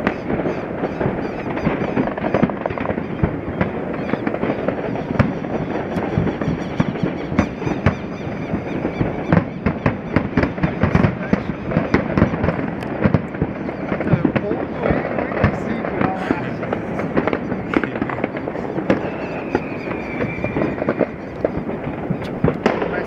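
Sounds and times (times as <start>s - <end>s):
fireworks and firecrackers crackling: 0.0s - 23.0s.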